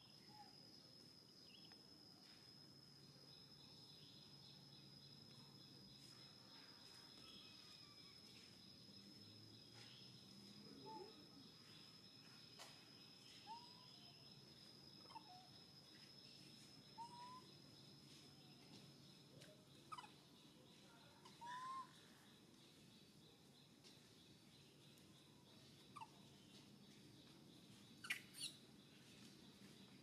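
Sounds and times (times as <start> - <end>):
bird chirping: 0.0 - 30.0
insect drone: 0.0 - 30.0.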